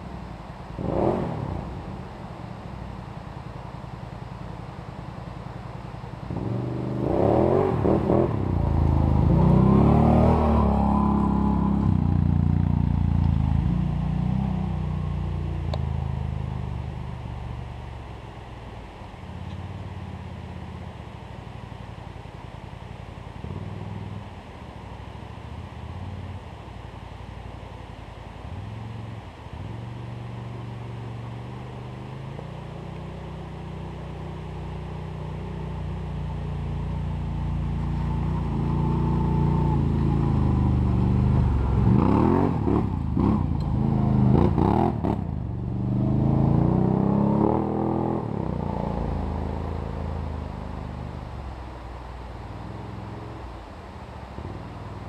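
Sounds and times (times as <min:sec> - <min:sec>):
atv engine idling and revving: 0:00.0 - 0:55.0.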